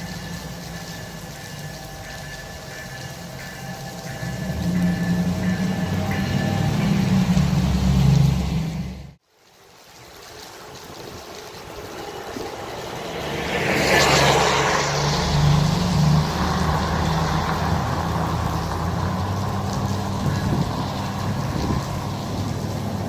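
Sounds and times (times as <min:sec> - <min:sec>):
truck driving past: 0:00.0 - 0:09.2, 0:12.0 - 0:23.0.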